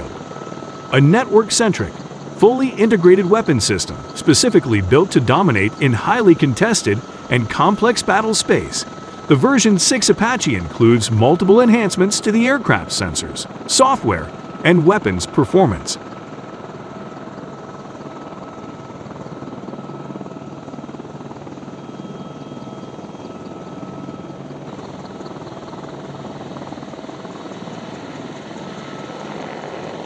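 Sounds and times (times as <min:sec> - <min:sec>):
helicopter hovering: 0:00.0 - 0:30.0.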